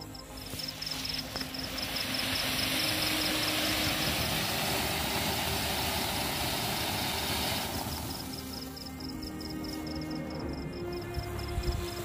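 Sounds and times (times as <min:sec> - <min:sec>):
fireworks hissing: 0:00.4 - 0:10.3.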